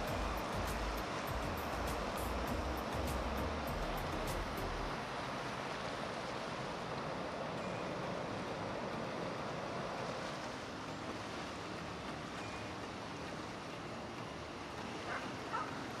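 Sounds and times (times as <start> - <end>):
choppy river water rushing: 0.0 - 16.0
wind: 0.0 - 16.0.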